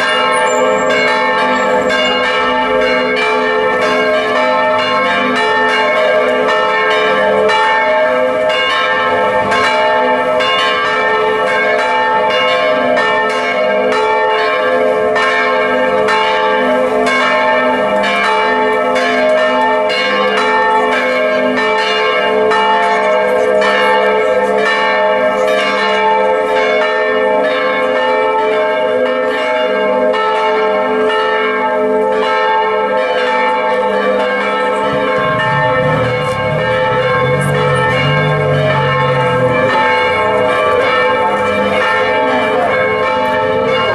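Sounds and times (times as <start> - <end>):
church bells pealing: 0.0 - 43.9.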